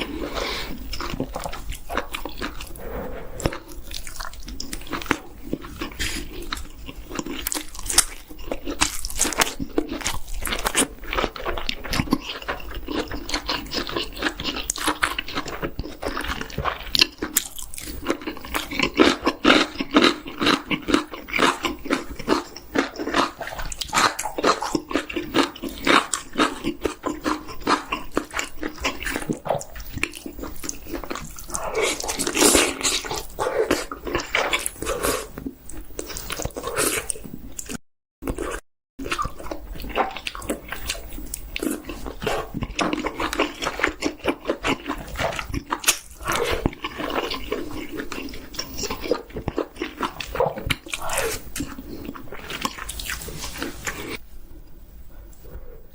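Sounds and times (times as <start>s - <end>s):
chewing with wet mouth smacks: 0.0s - 54.2s.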